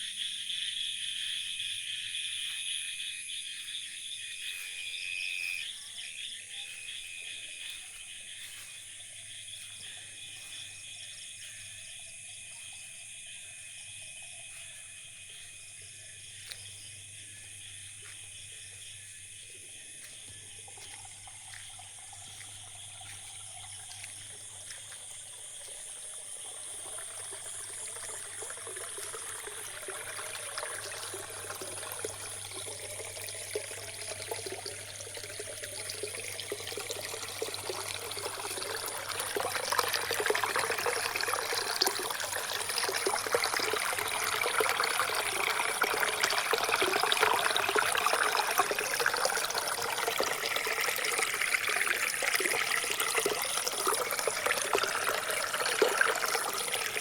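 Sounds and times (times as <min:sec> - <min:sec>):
water trickling and pouring: 0:06.7 - 0:57.0.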